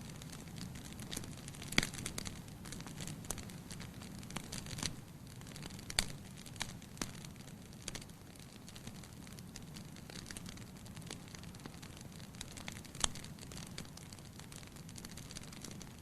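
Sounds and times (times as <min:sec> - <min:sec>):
fire burning in a fireplace: 0:00.0 - 0:16.0
fire crackling and popping: 0:00.0 - 0:16.0.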